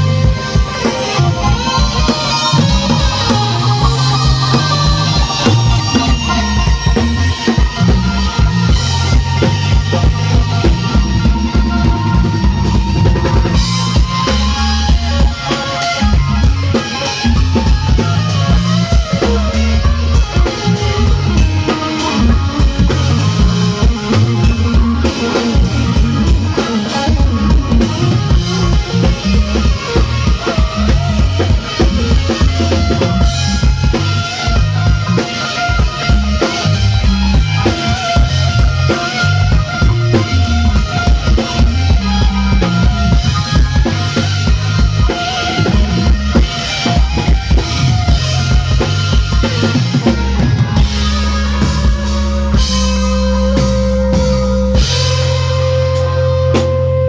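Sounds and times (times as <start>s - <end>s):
amplified electric guitar: 0.0s - 57.0s
drum kit: 0.0s - 57.0s.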